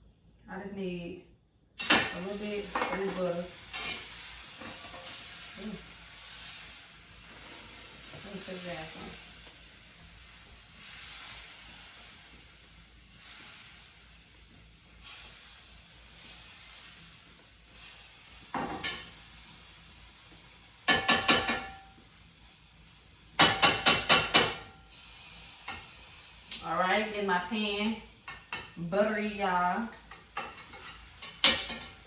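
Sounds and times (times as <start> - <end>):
butter sizzling in frying pan: 1.8 - 32.0.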